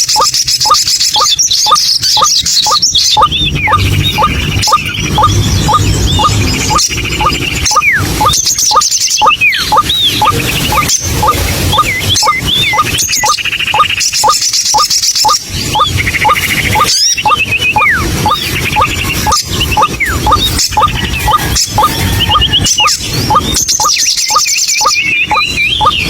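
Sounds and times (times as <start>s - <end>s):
bird chattering trills and whistles: 0.0s - 26.0s
bird calling short rising notes: 2.2s - 26.0s.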